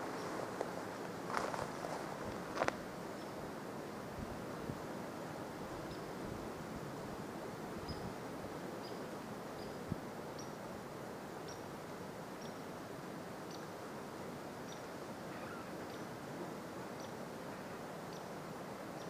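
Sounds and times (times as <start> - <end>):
woodland background hiss: 0.0 - 19.0.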